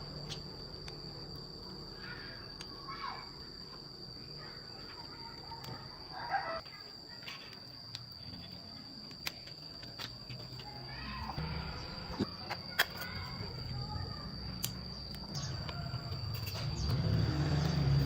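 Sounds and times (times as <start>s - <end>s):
high-pitched insect whine: 0.0s - 18.0s.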